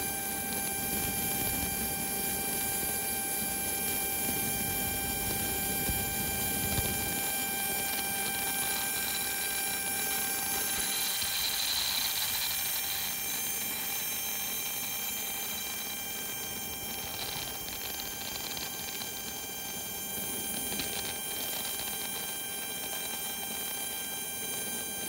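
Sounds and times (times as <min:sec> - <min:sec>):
jet auxiliary power unit whine: 0:00.0 - 0:25.0.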